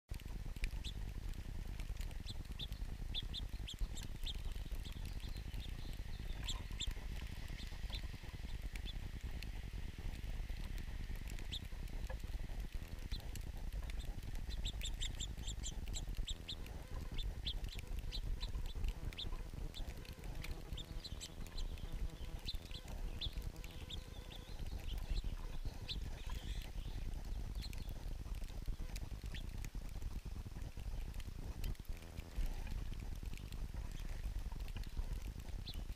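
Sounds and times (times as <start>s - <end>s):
low steady rumble: 0.1s - 35.9s
songbirds chirping: 0.1s - 35.9s.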